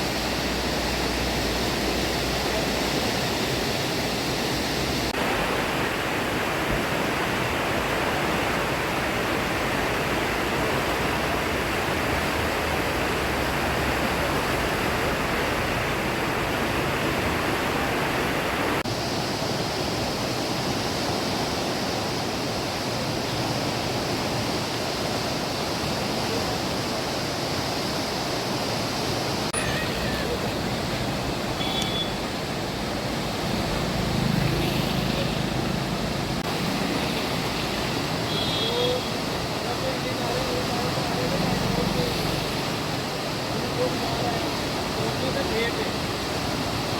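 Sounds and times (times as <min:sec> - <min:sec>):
river floodwater rushing: 0:00.0 - 0:46.9.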